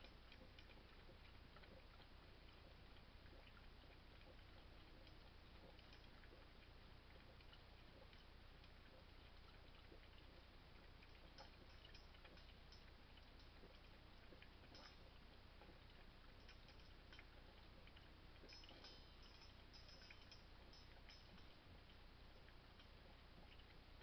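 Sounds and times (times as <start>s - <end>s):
steady low hum: 0.0s - 24.0s
puppy lapping water from metal bowl: 0.1s - 23.8s.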